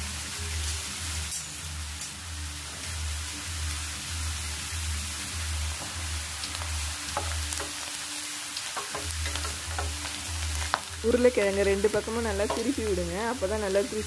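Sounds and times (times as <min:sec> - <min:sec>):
potato slices sizzling in hot oil: 0:00.0 - 0:14.0.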